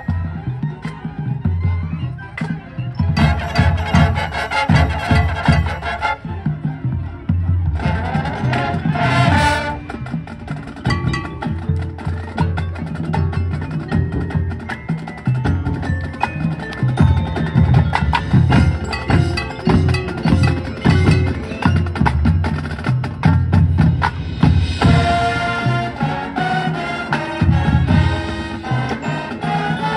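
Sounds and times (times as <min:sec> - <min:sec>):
marching band percussion music: 0:00.0 - 0:29.9.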